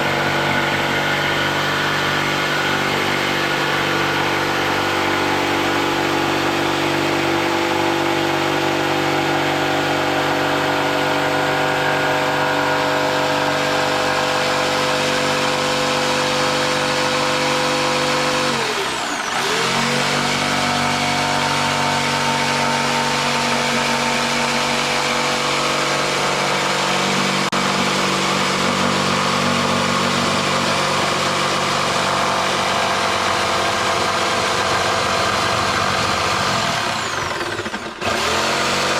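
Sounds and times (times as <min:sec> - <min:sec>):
motor humming: 0:00.0 - 0:38.4.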